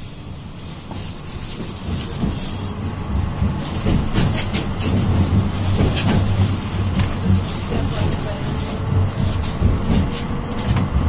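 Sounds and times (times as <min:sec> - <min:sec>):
vehicle engine humming: 0:00.0 - 0:11.0
rattles and clicks: 0:00.8 - 0:11.0.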